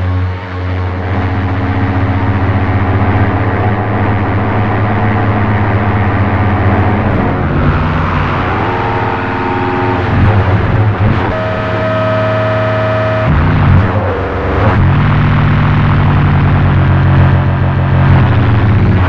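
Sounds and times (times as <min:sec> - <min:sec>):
electronic synthesizer drone: 0:00.0 - 0:19.0.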